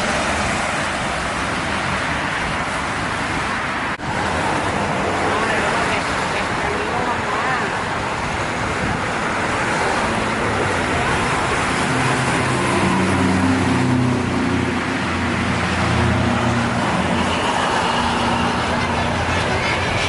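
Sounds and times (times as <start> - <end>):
heavy vehicle engine hum: 0.0 - 20.0
roadside traffic noise: 0.0 - 20.0.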